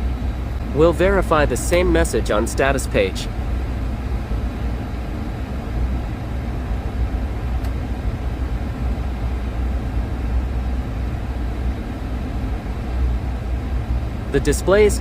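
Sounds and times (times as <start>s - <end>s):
machinery rumble: 0.0s - 15.0s.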